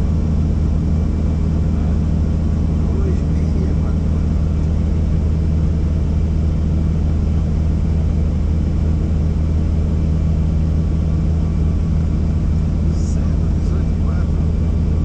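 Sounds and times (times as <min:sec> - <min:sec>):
helicopter running: 0:00.0 - 0:15.0.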